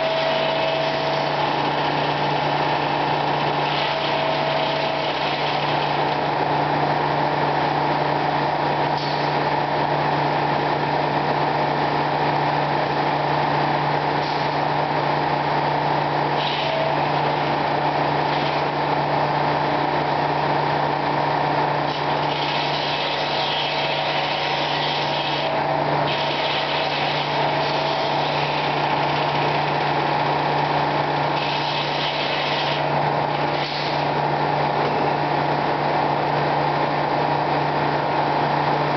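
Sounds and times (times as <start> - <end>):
sawmill machinery droning: 0.0 - 38.9.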